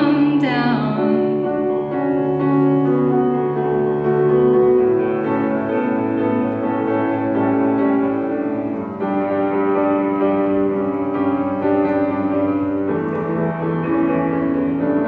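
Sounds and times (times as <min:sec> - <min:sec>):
keyboard playing held chords: 0:00.0 - 0:15.0.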